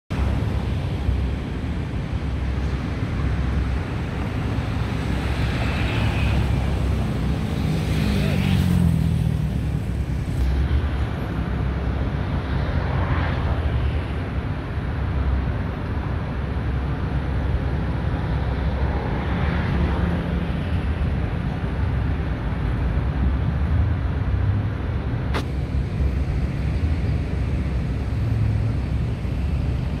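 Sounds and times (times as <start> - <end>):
city traffic rumble: 0.1 - 30.0.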